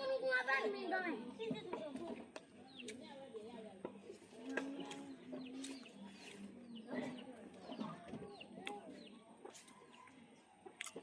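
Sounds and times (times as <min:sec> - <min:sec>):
low clucking bird calls: 0:01.3 - 0:11.0.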